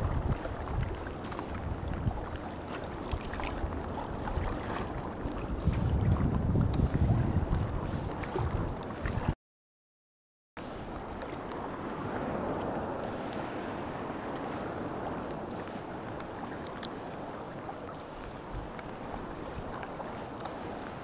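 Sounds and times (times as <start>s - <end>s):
water drips and splashes: 0.0s - 9.4s, 10.9s - 21.0s
water lapping around kayak: 0.0s - 9.4s, 10.6s - 21.0s
wind on microphone: 0.0s - 9.4s, 10.6s - 21.0s.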